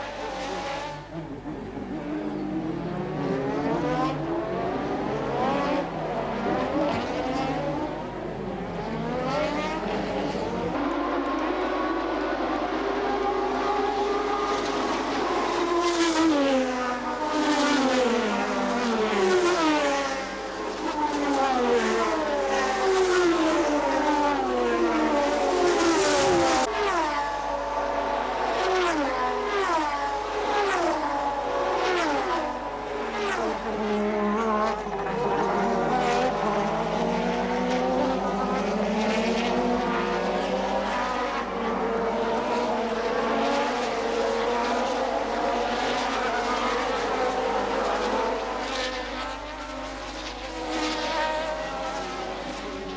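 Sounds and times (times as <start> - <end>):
racing cars passing at speed: 0.0 - 52.9.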